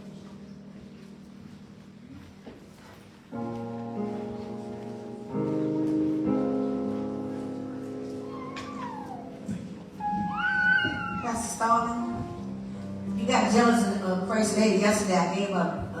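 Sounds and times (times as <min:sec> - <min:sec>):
church keyboard chords: 0:00.0 - 0:16.0.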